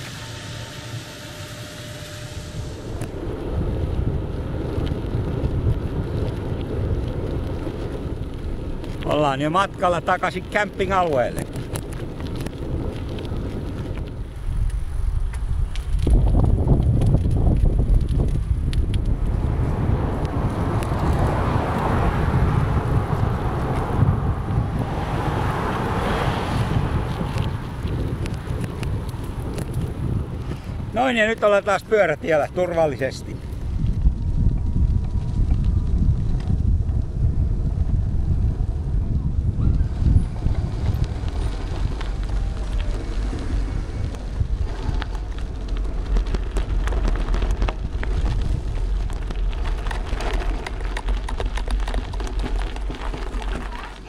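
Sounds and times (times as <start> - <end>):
bicycle tyres rolling over gravel: 0.0 - 54.0
wind buffeting microphone: 0.0 - 54.0.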